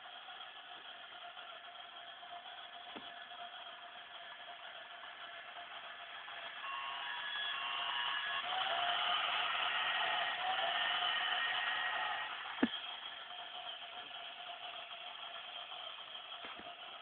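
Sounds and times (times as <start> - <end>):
toy train whirring: 0.0 - 17.0.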